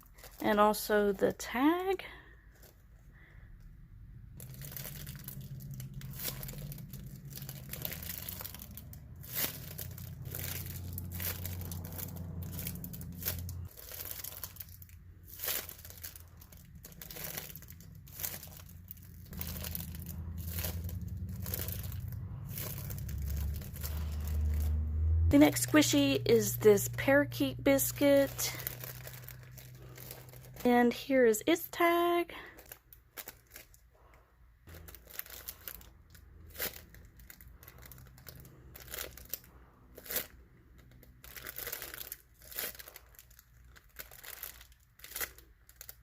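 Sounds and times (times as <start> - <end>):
squishy toy crinkling and rustling: 0.0 - 3.1, 4.3 - 24.8, 27.8 - 46.0
low steady hum: 0.0 - 46.0.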